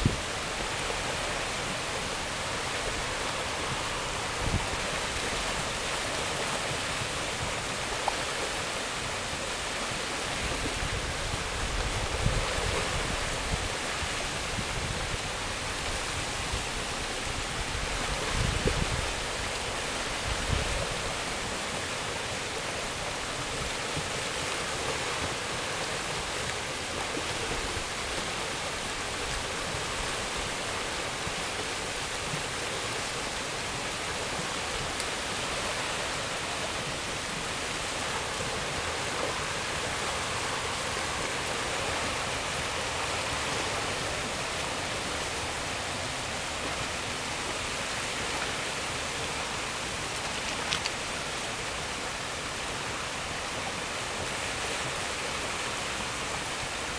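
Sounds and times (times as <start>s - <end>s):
river rushing with ice: 0.0s - 56.9s.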